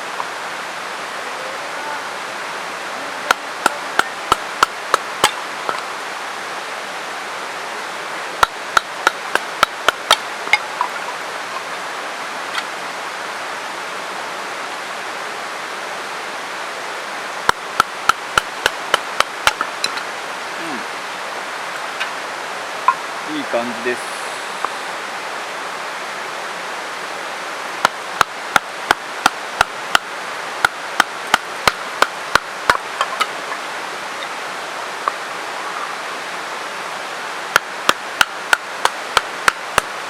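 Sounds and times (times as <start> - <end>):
mountain stream rushing: 0.0 - 40.0.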